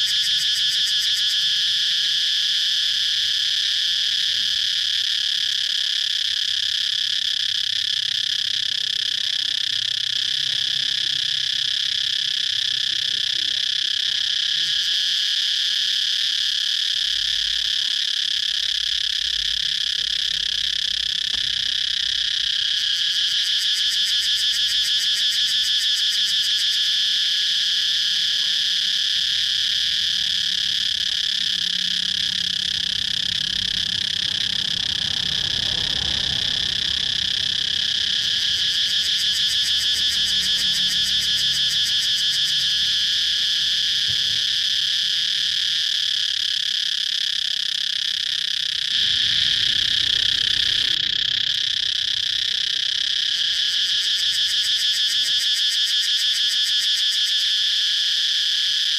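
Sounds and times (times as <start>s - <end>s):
cicadas buzzing: 0.0s - 58.9s
rapid pulsing insect call: 0.0s - 58.9s.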